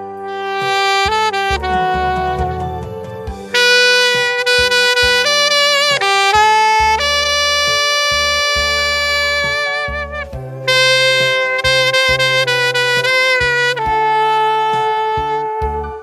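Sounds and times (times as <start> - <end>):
backing track with bass: 0.0 - 16.0
wind instrument long held notes: 0.0 - 16.0.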